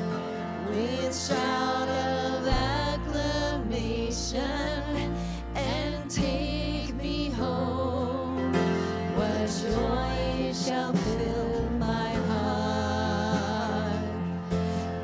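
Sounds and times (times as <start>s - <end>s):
band playing worship song: 0.0s - 15.0s
person singing: 0.0s - 15.0s
sustained bass notes: 0.0s - 15.0s.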